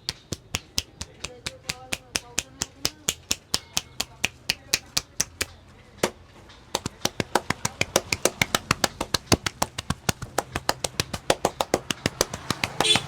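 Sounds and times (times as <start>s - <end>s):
hands slapping and tapping head: 0.0s - 13.0s.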